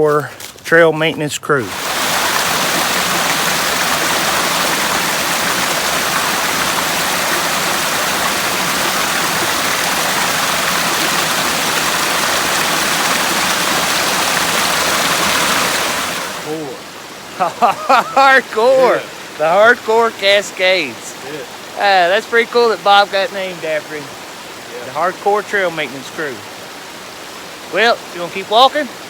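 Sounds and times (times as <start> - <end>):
waterfall rushing: 1.6 - 29.0.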